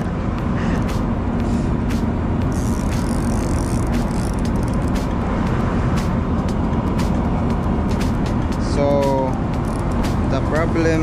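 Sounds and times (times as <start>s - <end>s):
boat engine running: 0.0s - 11.0s
wind: 0.0s - 11.0s.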